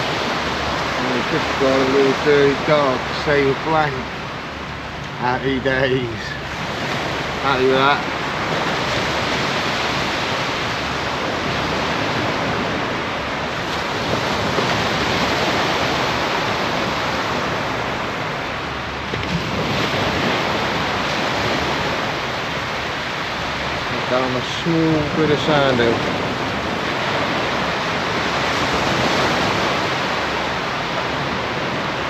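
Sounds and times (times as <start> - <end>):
sea surf washing on shore: 0.0 - 32.0
wind noise on microphone: 0.0 - 32.0.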